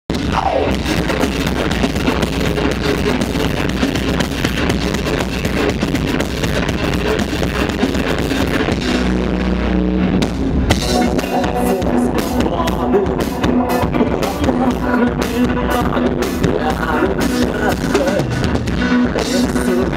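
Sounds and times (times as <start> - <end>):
driving drums: 0.0 - 19.9
distorted electric guitars: 0.1 - 19.9
metal band playing: 0.1 - 19.9.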